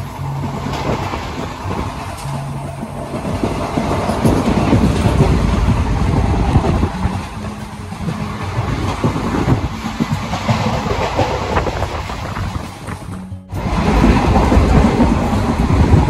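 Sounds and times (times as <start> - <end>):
train rumble: 0.0 - 16.0
wheels clattering over rail joints: 0.0 - 16.0.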